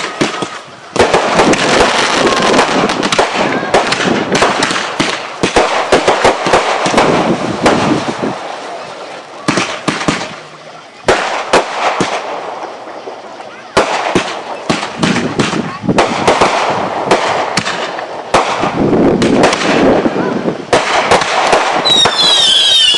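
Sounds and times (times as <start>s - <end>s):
fireworks bangs and crackling: 0.0s - 22.9s.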